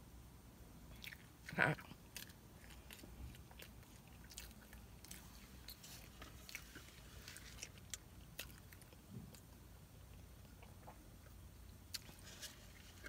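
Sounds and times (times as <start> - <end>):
faint chewing: 0.9 - 13.0.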